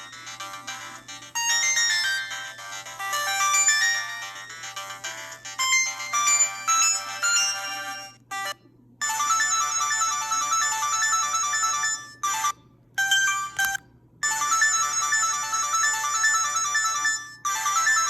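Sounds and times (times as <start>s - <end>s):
mobile phone ringtone melody: 0.0s - 18.0s.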